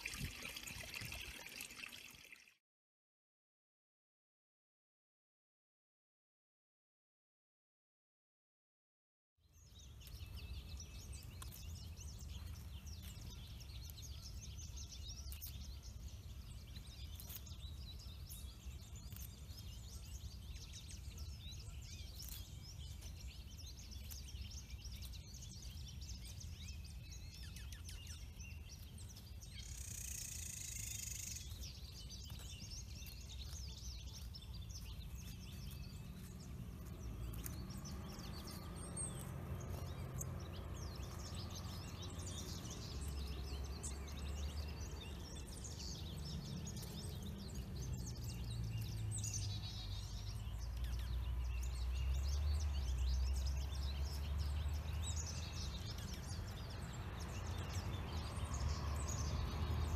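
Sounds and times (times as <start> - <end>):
small birds chirping: 0.0 - 2.5, 9.4 - 59.9.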